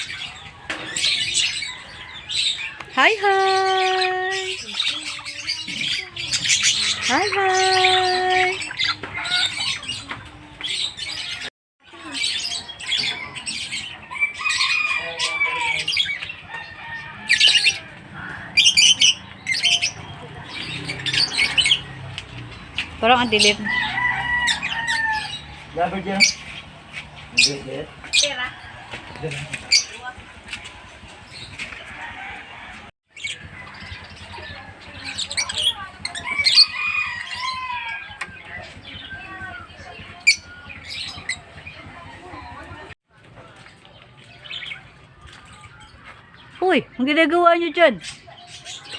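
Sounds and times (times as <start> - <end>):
lovebirds chattering and squawking: 0.0 - 48.9.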